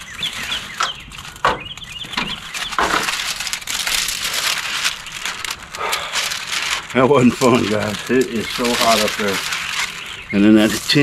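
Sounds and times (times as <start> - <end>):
bird chirping: 0.0 - 11.0
rustling: 0.0 - 11.0.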